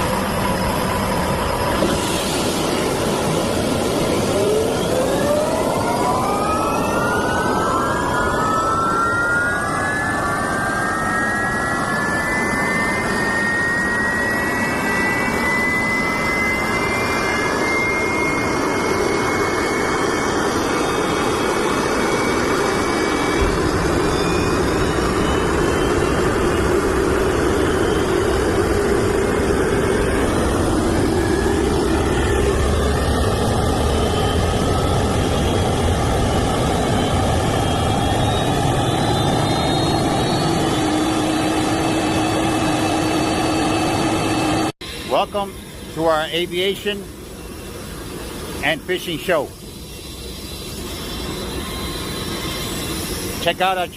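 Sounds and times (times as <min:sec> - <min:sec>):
turbine engine whine: 0:00.0 - 0:53.9.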